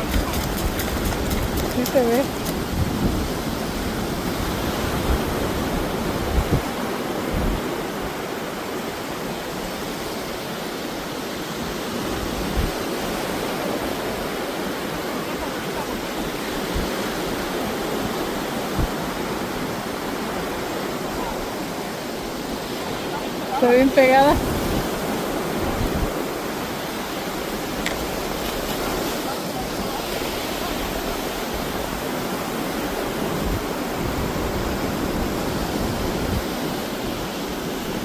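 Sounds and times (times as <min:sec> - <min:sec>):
wind on microphone: 0:00.0 - 0:08.4, 0:11.5 - 0:38.0
surf: 0:00.0 - 0:38.0.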